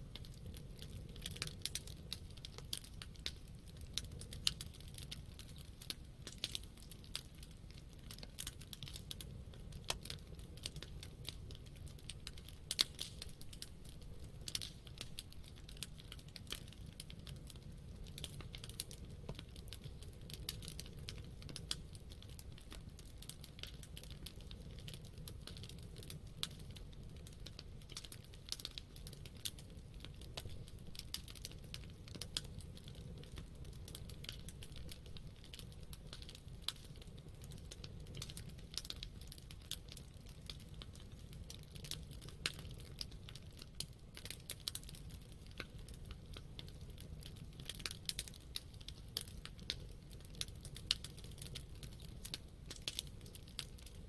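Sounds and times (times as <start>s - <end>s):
campfire crackling and popping: 0.0s - 54.0s
low fire rumble: 0.0s - 54.0s.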